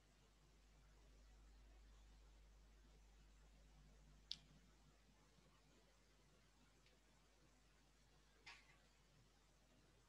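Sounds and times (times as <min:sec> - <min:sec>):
faint low hum and hiss: 0:00.0 - 0:10.0.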